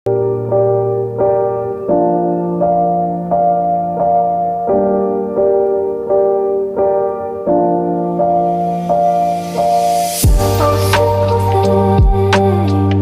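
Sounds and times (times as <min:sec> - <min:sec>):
slow piano chords: 0:00.1 - 0:13.0.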